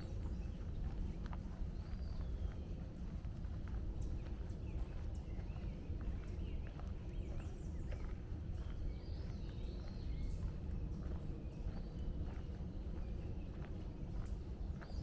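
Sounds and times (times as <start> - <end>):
footsteps crunching on trail: 0.0 - 15.0
songbirds chirping and singing: 0.0 - 15.0.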